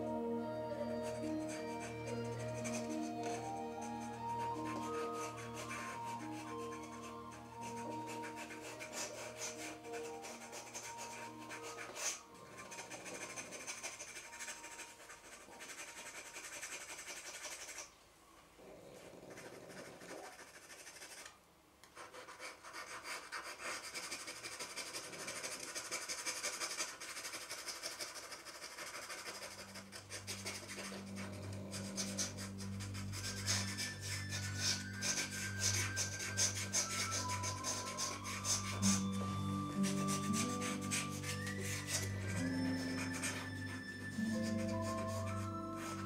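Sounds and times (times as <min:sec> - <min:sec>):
pen nib scratching paper: 0:00.8 - 0:17.9, 0:19.0 - 0:46.0.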